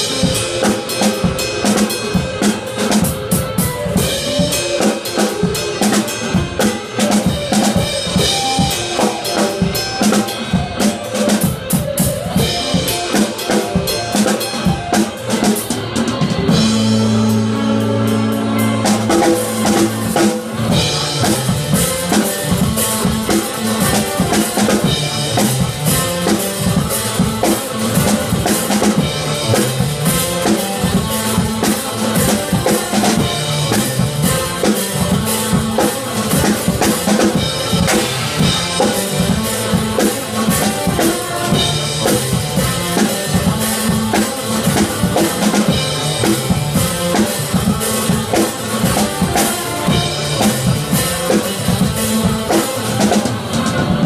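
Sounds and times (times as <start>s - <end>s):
acoustic drum kit playing funk: 0.0s - 54.0s
backing track bass line: 0.0s - 54.0s.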